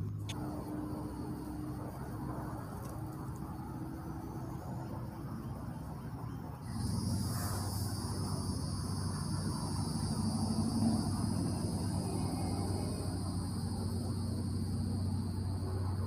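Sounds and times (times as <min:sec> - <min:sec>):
insects droning: 0:00.0 - 0:16.0
low steady hum: 0:00.0 - 0:16.0.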